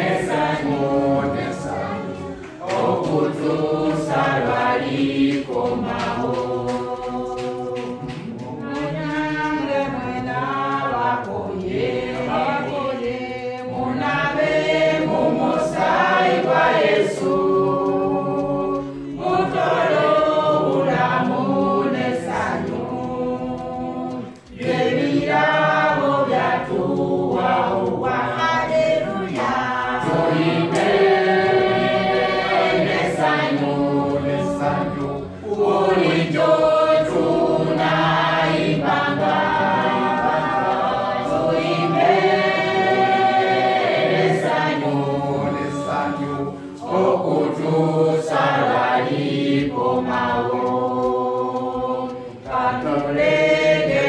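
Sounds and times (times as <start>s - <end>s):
group singing church song: 0.0s - 54.0s.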